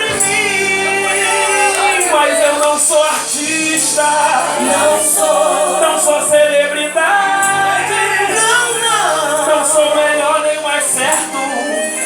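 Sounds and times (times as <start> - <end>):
gospel band playing: 0.0 - 12.0
person singing: 0.0 - 12.0.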